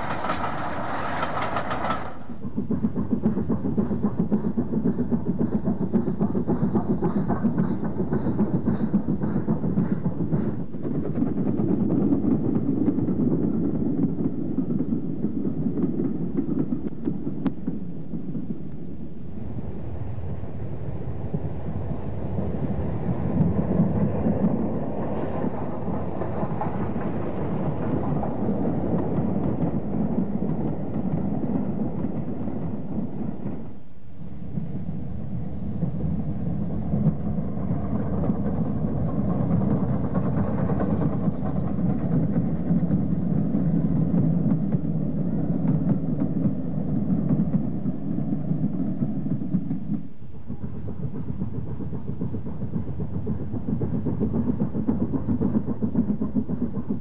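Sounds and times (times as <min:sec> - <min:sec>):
steam locomotive exhaust: 0:00.0 - 0:57.0
train wheels rolling: 0:00.0 - 0:57.0.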